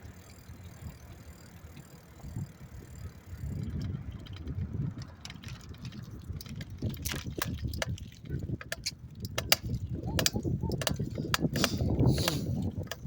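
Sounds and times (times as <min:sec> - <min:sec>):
bicycle rattling clicks: 0:00.0 - 0:13.0
wind and tyre rumble: 0:00.0 - 0:13.0.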